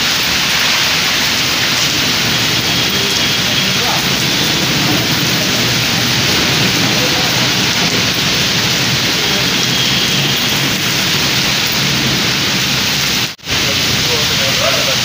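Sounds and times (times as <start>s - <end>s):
heavy rain on road: 0.0s - 15.0s.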